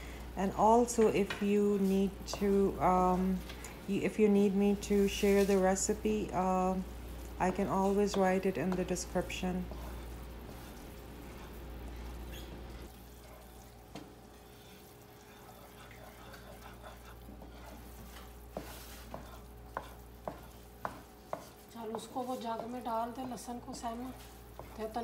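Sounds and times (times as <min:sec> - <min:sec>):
faint sizzling in a frying pan: 0:00.0 - 0:25.0.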